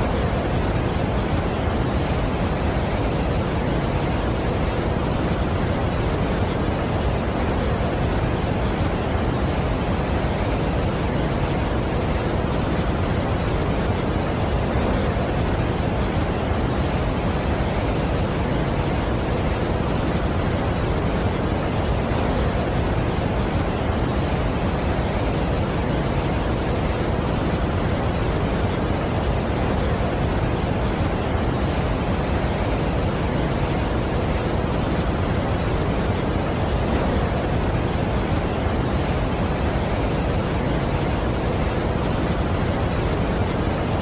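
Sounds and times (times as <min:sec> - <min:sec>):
large waterfall rushing: 0:00.0 - 0:44.0.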